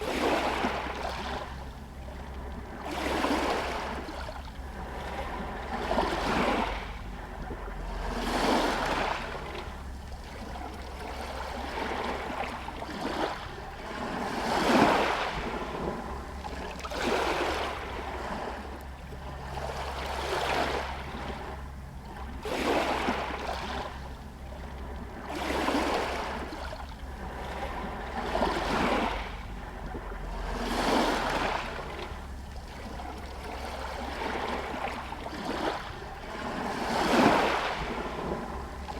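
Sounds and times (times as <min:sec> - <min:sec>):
small waves lapping against stones: 0:00.0 - 0:38.9
steady low rumble: 0:00.7 - 0:38.9.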